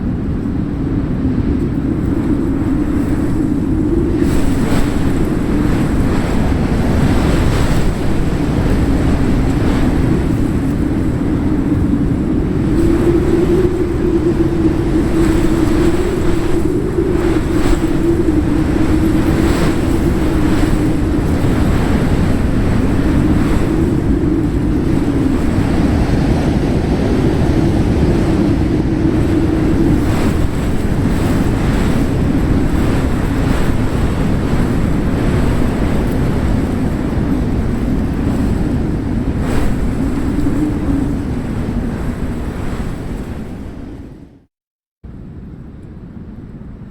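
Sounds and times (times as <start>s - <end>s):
wind buffeting microphone: 0.0s - 46.9s
breaking surf: 1.6s - 44.4s.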